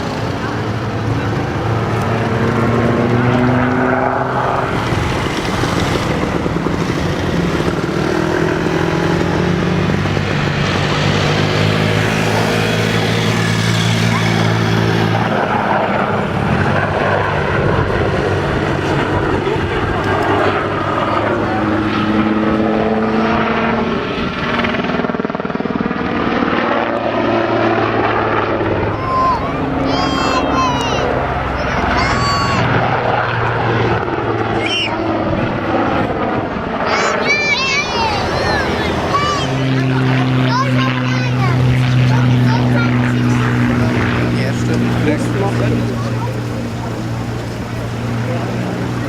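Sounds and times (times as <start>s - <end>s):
aircraft engine droning: 0.0s - 49.0s.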